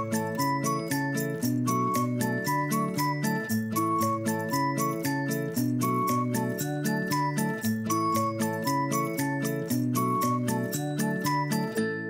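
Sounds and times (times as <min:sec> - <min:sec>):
melodic music over a beat: 0:00.0 - 0:12.0.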